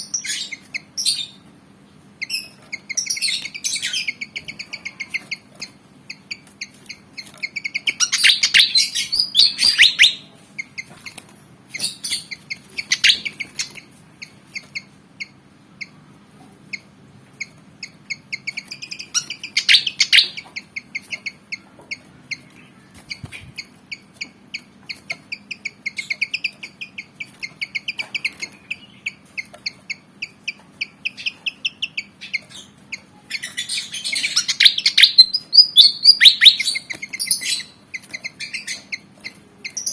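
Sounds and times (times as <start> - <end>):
bird chirping and chattering song: 0.0 - 39.9.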